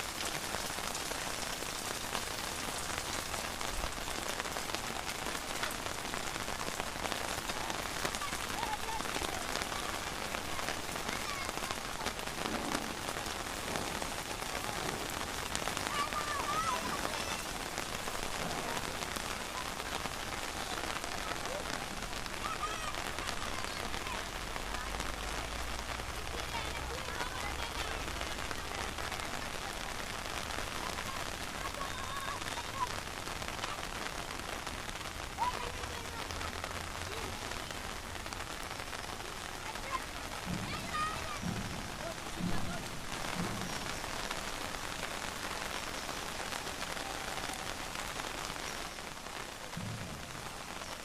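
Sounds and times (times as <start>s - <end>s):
raindrops striking close by: 0.0s - 51.0s
steady rain hiss: 0.0s - 51.0s.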